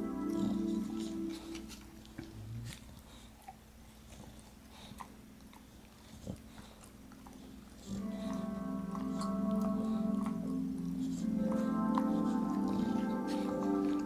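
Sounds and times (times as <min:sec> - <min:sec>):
dog chewing: 0:00.0 - 0:14.0.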